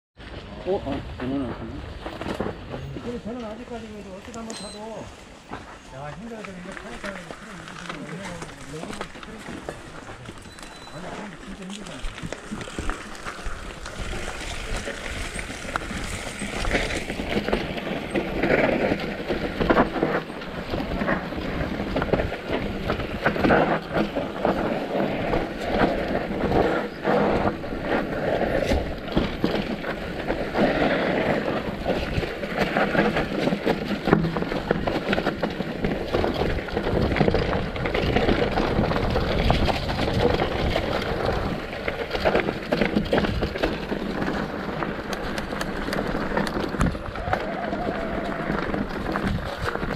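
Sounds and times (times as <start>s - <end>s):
bike rattling over bumps: 0.2s - 49.9s.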